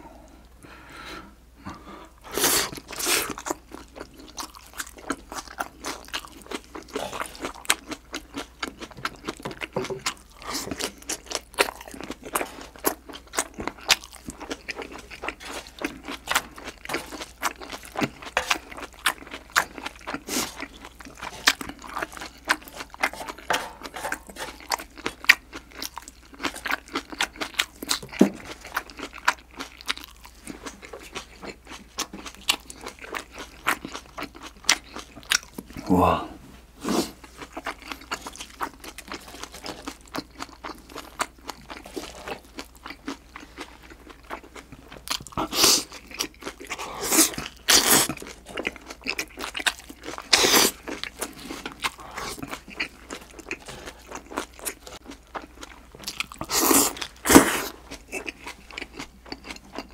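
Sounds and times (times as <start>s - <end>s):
chewing and crunching food: 2.2s - 36.1s, 36.8s - 59.9s.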